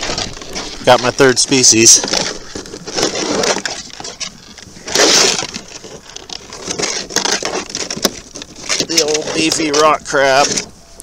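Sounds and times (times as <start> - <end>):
rustling and scraping handling noise: 0.0 - 11.0.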